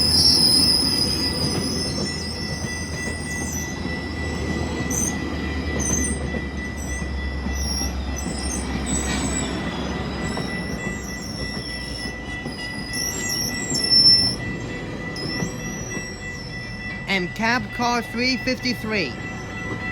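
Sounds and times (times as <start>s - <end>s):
train wheels squealing: 0.0s - 17.0s
train coaches rumbling past: 0.0s - 19.9s.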